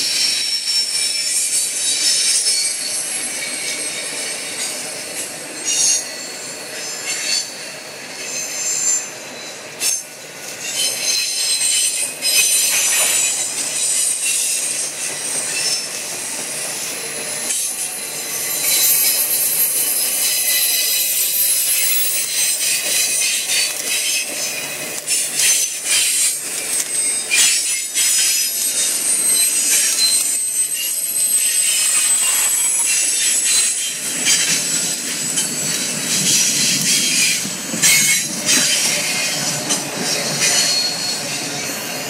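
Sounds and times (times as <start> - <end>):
train rumbling on rails: 0.0 - 42.0
train wheels squealing: 0.0 - 42.0.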